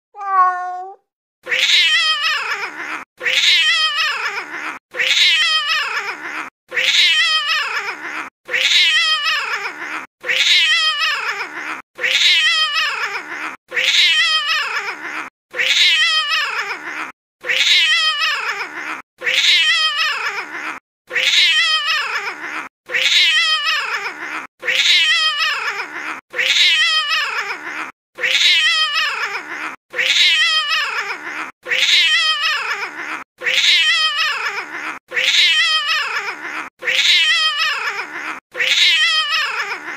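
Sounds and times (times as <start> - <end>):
cat meowing and caterwauling: 0.2 - 39.9.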